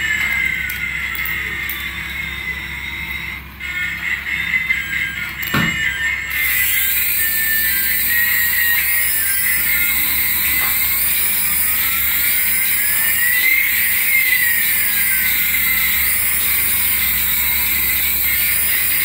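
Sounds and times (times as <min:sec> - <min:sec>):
high electric whine of toys: 0:00.0 - 0:19.0.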